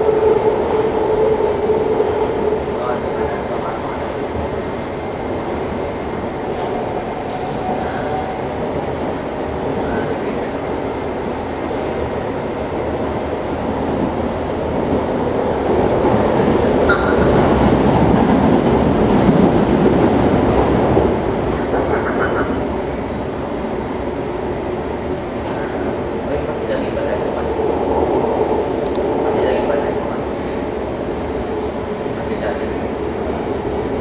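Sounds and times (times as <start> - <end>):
metro train interior rumble: 0.0 - 34.0.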